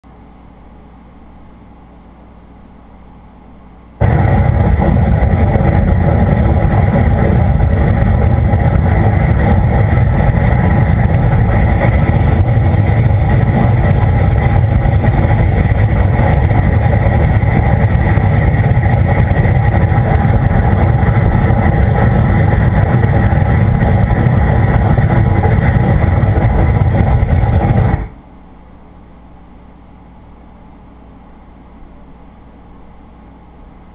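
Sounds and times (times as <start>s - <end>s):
loud steady rumbling roar: 0.0s - 33.9s.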